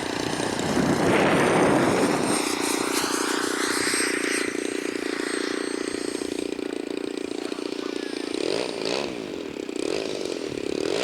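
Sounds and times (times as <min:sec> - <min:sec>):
model aircraft engine running: 0:00.0 - 0:11.0.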